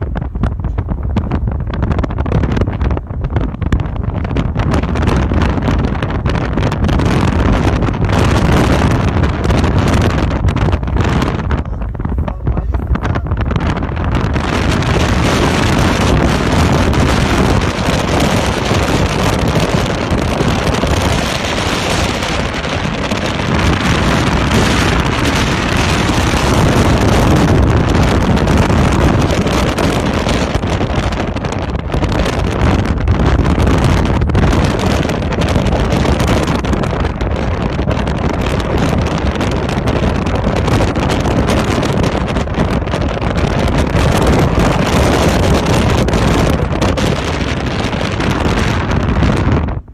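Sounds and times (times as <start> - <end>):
strong storm wind roaring: 0.0 - 49.9.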